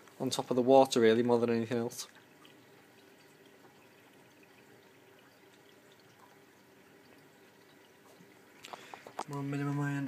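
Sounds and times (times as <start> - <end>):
water trickling and dripping: 0.0 - 10.0.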